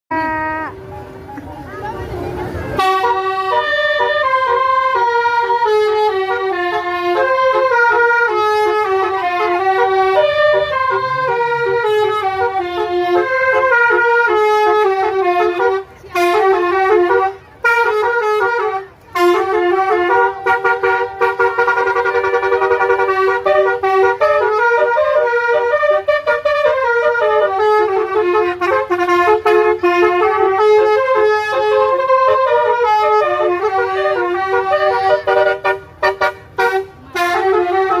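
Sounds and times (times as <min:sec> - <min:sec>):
multi-tone horn melodies: 0:02.4 - 0:38.0.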